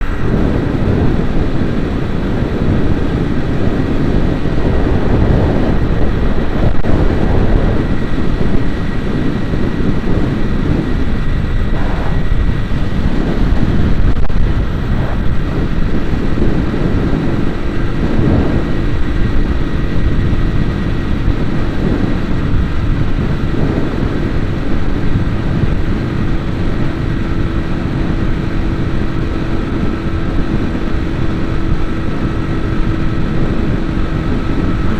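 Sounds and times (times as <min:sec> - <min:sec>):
steady engine tone: 0:00.0 - 0:34.9
vehicle engine and road rumble: 0:00.0 - 0:34.9.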